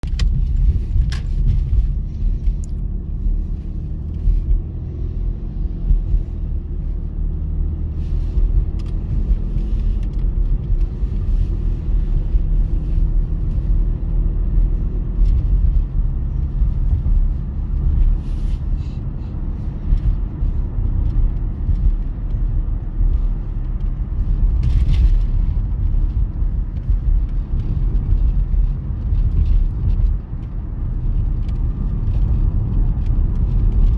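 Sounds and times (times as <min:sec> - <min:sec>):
diesel locomotive rumbling: 0:00.0 - 0:33.9.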